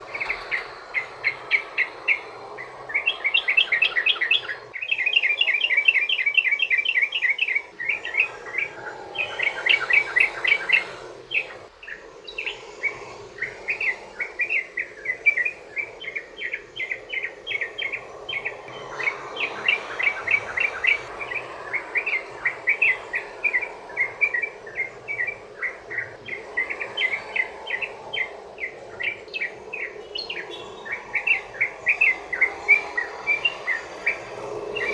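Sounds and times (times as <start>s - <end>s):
bird singing chirpy notes: 0.0s - 34.9s
steady background hiss: 0.0s - 34.9s.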